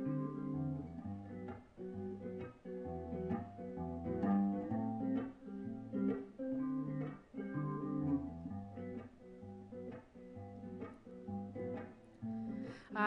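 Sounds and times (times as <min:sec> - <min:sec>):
picked instrumental notes: 0:00.0 - 0:13.0.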